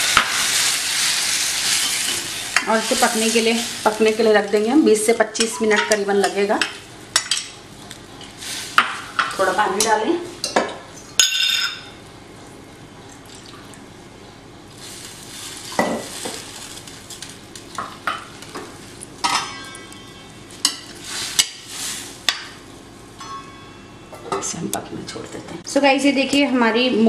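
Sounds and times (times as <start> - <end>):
steady sizzle: 0.0 - 26.8.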